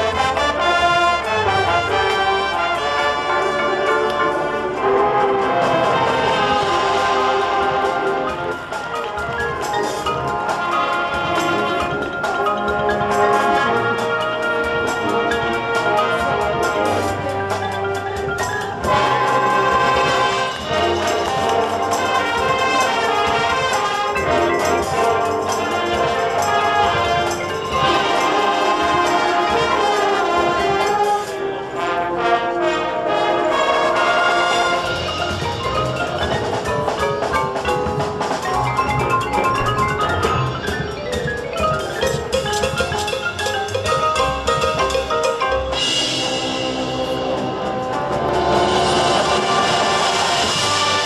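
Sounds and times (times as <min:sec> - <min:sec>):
marching band playing: 0:00.0 - 0:51.0
marimbas: 0:00.0 - 0:51.0.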